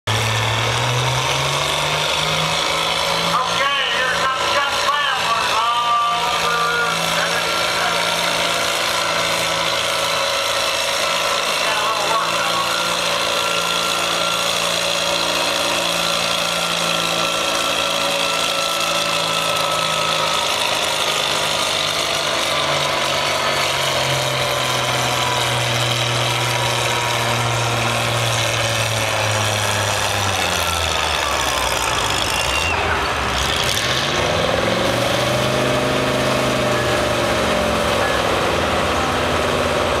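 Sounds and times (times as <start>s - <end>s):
tractor engine running hard: 0.0s - 40.0s.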